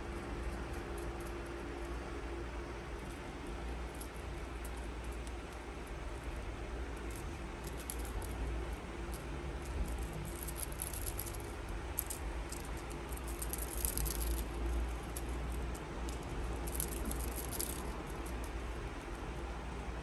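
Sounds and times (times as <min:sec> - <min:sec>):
beads rattling in toy wand: 0:00.0 - 0:19.9
low steady rumble: 0:00.0 - 0:20.0.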